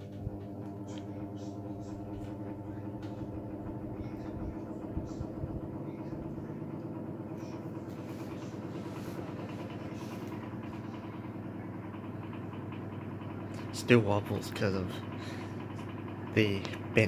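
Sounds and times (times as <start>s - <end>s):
desk fan running: 0.0s - 17.0s.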